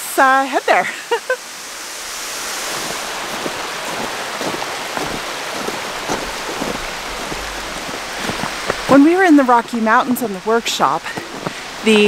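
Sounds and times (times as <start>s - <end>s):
waterfall and creek rushing: 0.0s - 12.0s
wind rumble on microphone: 2.2s - 12.0s.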